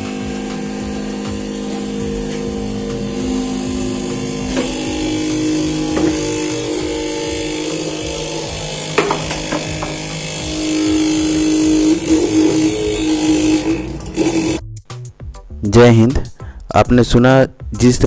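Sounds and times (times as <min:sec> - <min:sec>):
fill valve humming: 0:00.0 - 0:14.6.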